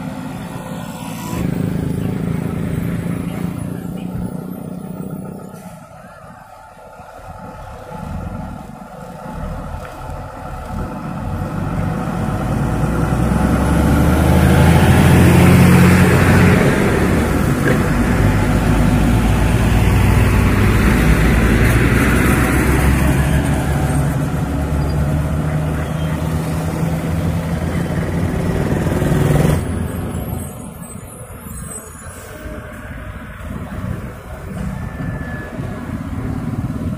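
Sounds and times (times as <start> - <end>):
diesel engines passing: 0.0 - 36.9
rushing tyre noise: 0.0 - 36.9.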